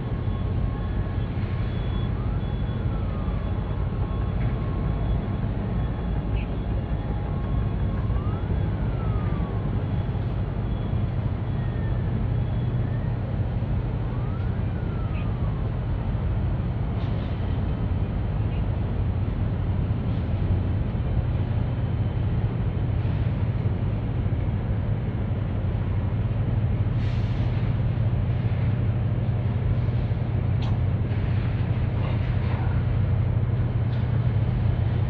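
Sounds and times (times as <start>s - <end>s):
ship engine rumble: 0.0s - 35.0s.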